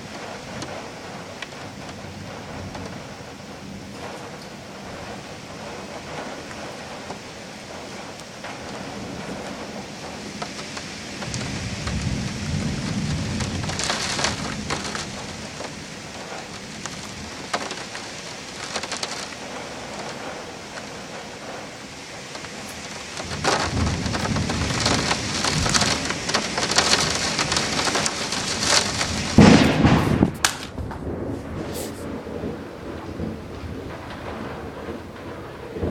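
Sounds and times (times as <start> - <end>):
heavy rain falling: 0.0 - 35.9
thunder rumbling: 0.0 - 35.9.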